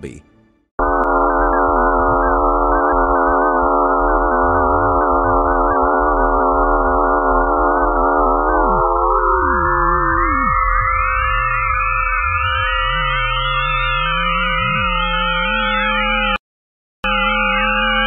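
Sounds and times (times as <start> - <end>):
wavering synthetic tones: 1.4 - 16.4.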